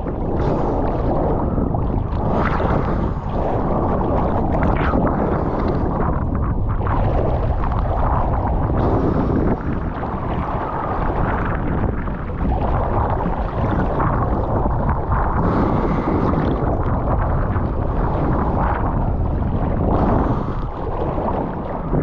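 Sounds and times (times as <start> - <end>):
rough surf churning: 0.0 - 22.0
wind buffeting microphone: 0.0 - 22.0.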